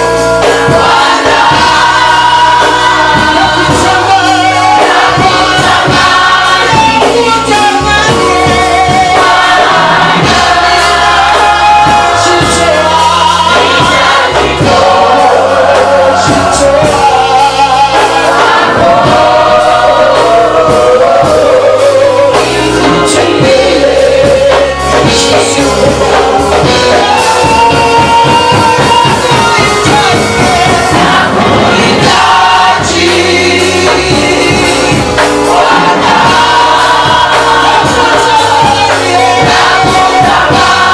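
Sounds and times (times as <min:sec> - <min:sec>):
band with bass line: 0:00.0 - 0:40.9
choir singing gospel: 0:00.0 - 0:40.9.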